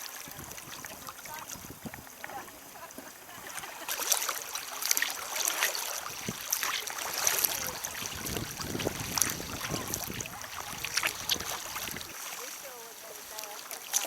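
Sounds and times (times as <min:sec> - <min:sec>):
water splashing around a kayak: 0:00.0 - 0:14.0.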